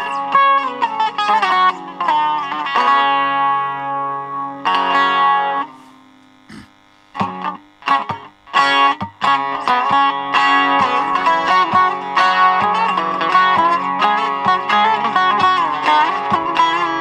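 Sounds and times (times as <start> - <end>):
long-necked lute plucked and strummed: 0.0 - 6.5, 7.2 - 17.0.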